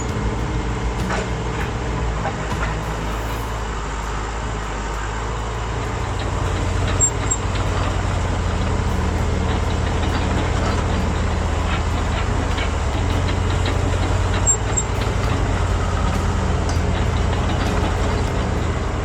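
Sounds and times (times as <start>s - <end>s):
low engine-like drone: 0.0s - 19.0s.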